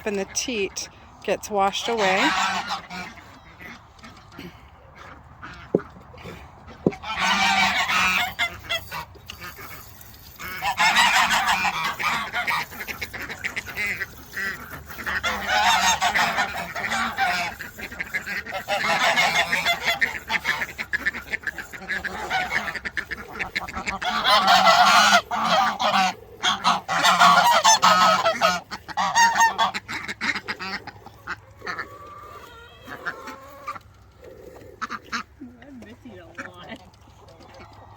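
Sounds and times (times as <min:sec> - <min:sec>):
farm fowl honking: 0:00.1 - 0:37.9.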